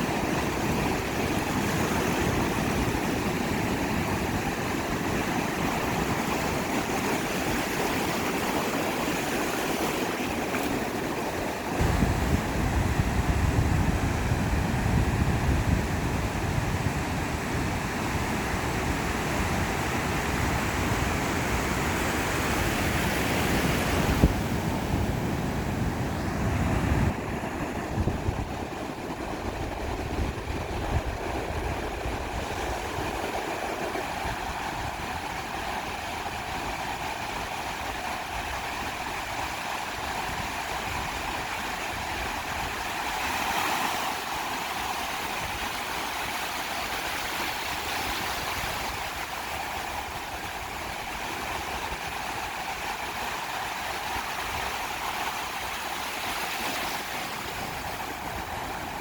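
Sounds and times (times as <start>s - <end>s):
sea surf washing onto beach: 0.0s - 59.0s.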